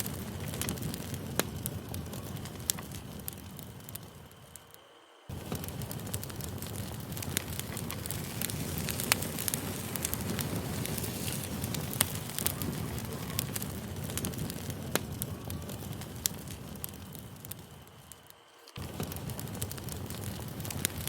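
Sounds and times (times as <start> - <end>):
campfire crackling: 0.0 - 21.0
sharp pops of burning wood: 0.0 - 21.0.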